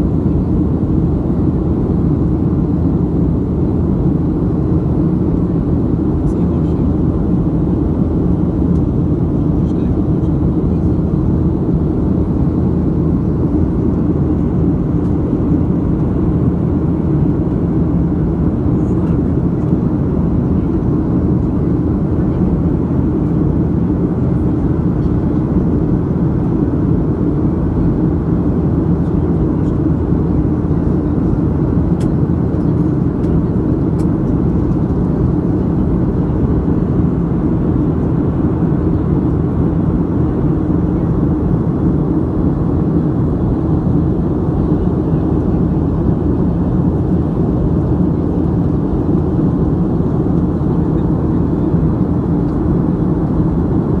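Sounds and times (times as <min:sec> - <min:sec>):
engine and airflow noise: 0:00.0 - 0:54.0.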